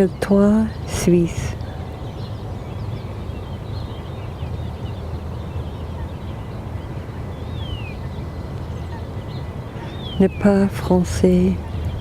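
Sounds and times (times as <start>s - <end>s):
faint bird chirps: 0.0s - 12.0s
steady low rumble: 0.0s - 12.0s.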